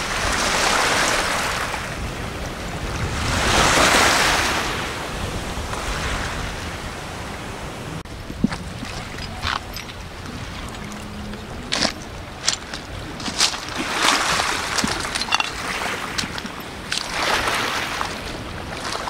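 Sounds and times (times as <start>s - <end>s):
small waves washing onto gravel beach: 0.0s - 7.0s, 8.1s - 19.0s
wind on microphone: 0.0s - 19.0s.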